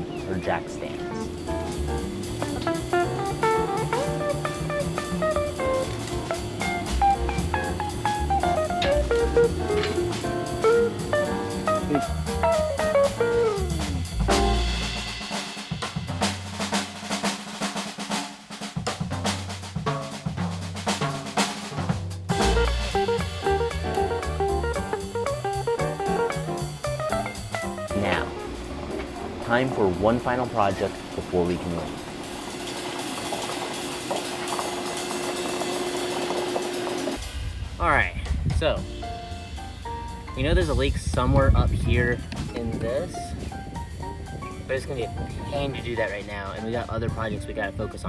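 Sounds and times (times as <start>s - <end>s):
deep bass hit: 1.1s - 17.2s, 18.9s - 33.1s, 37.2s - 48.0s
melody over drum kit: 1.2s - 37.2s, 38.6s - 47.9s.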